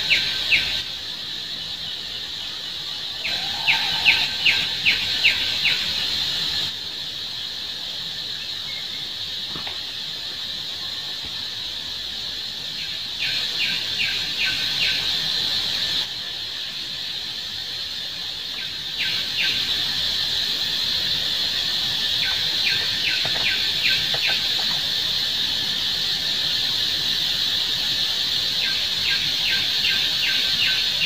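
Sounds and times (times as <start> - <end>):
insects droning: 0.0 - 31.0.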